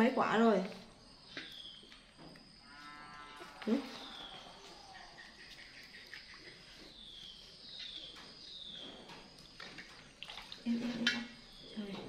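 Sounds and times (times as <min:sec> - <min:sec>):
thin insect-like hum: 0:00.0 - 0:12.0.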